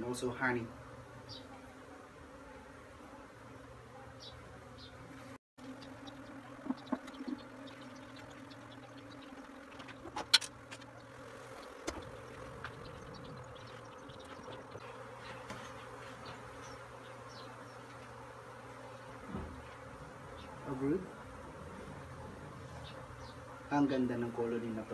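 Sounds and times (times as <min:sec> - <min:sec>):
honeybees buzzing: 0:00.0 - 0:24.9.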